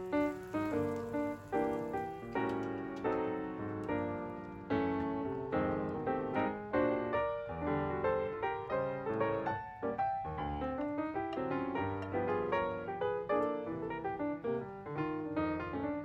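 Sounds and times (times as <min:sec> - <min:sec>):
solo piano music: 0:00.0 - 0:16.0.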